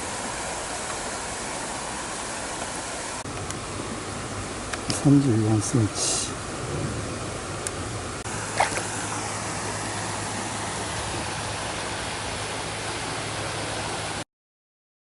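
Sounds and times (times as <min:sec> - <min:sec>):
flowing river water: 0:00.0 - 0:14.2.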